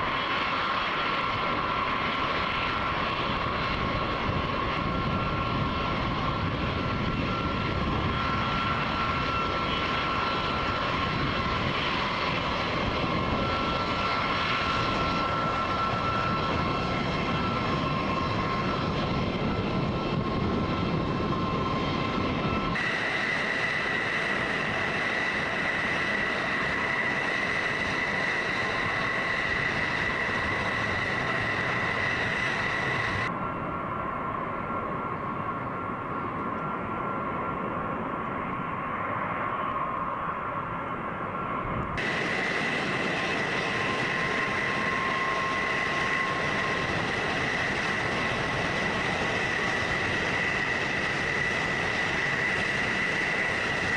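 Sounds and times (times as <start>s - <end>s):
aircraft engines running: 0.0s - 53.9s.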